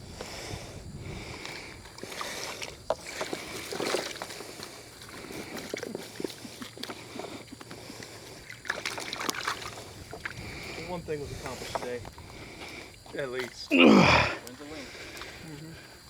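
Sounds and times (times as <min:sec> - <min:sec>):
water splashing: 0:01.2 - 0:16.0.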